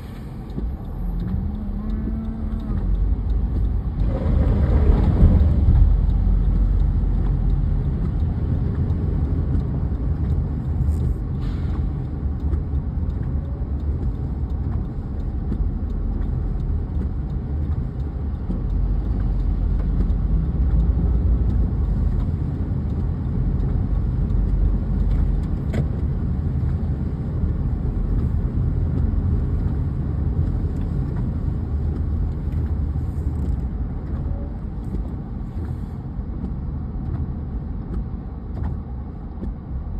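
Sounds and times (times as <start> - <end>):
faint clicks: 0.0 - 38.8
car engine and tyre noise: 0.0 - 39.9.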